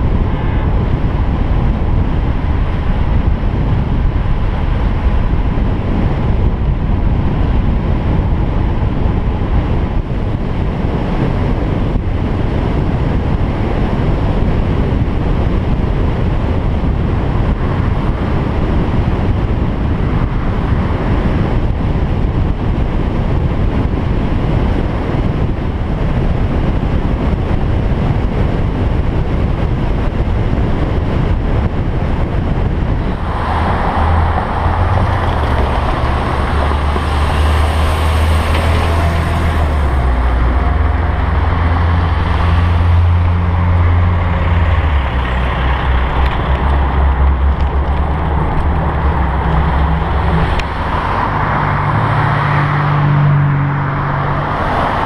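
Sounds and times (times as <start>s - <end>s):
street traffic: 0.0s - 55.0s
trucks and cars passing: 0.0s - 55.0s
wind rushing over microphone: 0.0s - 55.0s.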